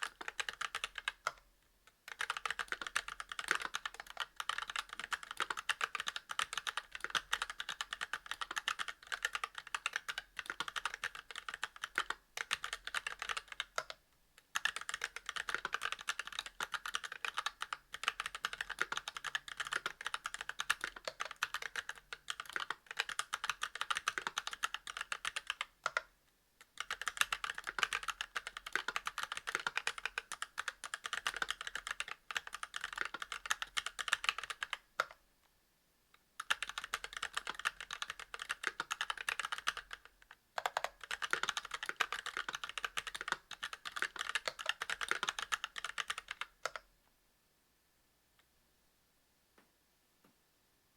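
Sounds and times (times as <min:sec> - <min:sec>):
mechanical keyboard typing: 0:00.0 - 0:01.4, 0:02.1 - 0:14.0, 0:14.6 - 0:35.2, 0:36.4 - 0:46.9.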